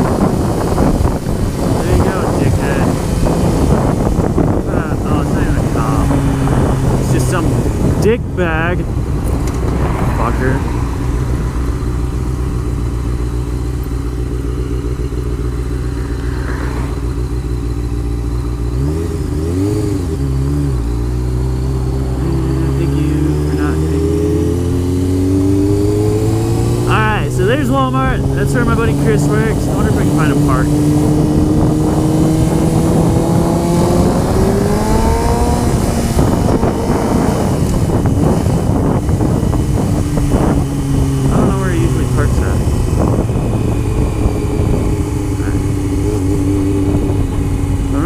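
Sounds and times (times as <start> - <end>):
motorcycle engine running: 0.0 - 48.0
wind rumble on microphone: 0.0 - 48.0.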